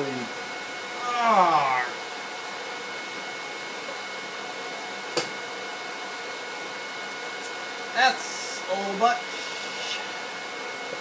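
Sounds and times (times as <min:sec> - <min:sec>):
machine fan whirring: 0:00.0 - 0:11.0.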